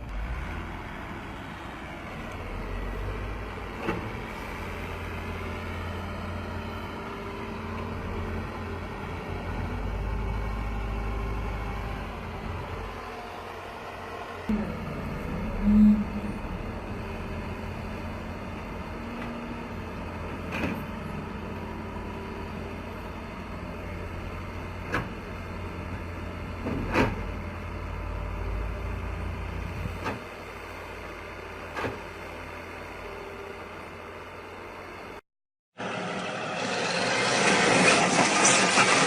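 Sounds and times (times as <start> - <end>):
heavy machine engine rumbling: 0.0 - 35.2, 35.8 - 39.0.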